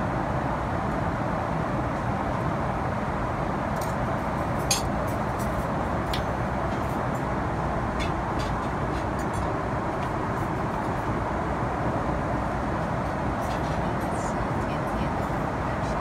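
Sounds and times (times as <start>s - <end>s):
airliner cabin engine noise: 0.0s - 16.0s.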